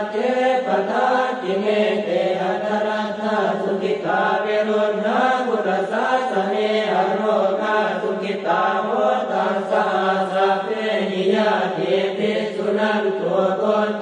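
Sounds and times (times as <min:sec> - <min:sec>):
monks chanting in unison: 0:00.0 - 0:14.0.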